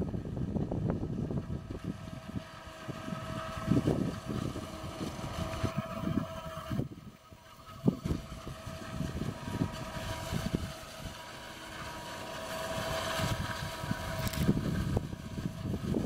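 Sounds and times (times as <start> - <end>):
forage harvester machine hum: 0.0 - 16.0
wind buffeting microphone: 0.0 - 16.0.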